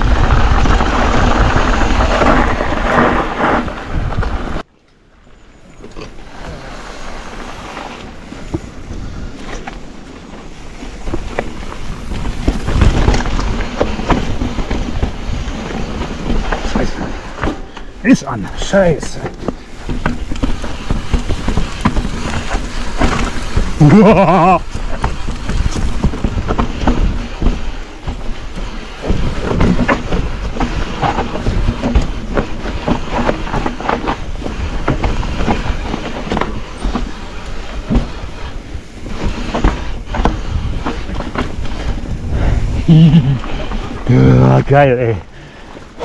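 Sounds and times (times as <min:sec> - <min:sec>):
mountain bike rattling and clattering: 0:00.0 - 0:46.0
tyre and wind rumble: 0:00.0 - 0:46.0.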